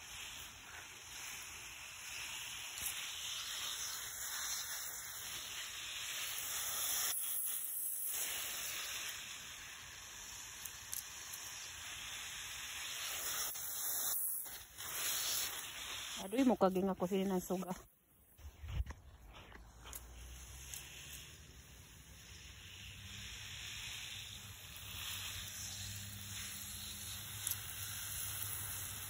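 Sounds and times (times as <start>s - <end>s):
hose spray nozzle hissing: 0.0s - 29.0s.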